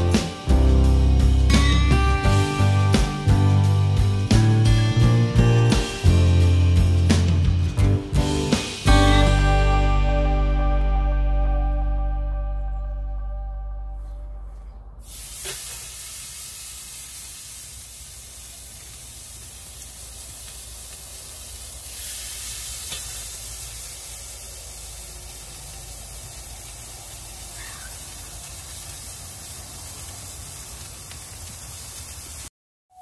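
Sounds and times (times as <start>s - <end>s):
steaks sizzling: 0.0s - 11.0s, 15.0s - 32.5s.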